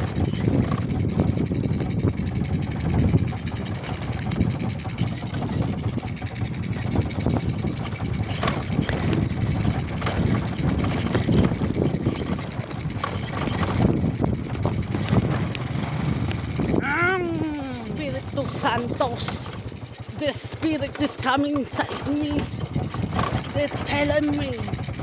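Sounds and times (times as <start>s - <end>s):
knocks and rattles from bumpy ground: 0.0s - 15.8s, 18.0s - 25.0s
motorcycle engine running: 0.0s - 25.0s.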